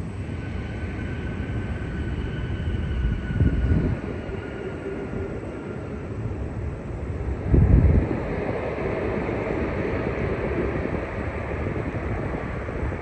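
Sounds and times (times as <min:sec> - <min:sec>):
jet engines rumbling: 0:00.0 - 0:13.0
wind gust on microphone: 0:00.2 - 0:13.0.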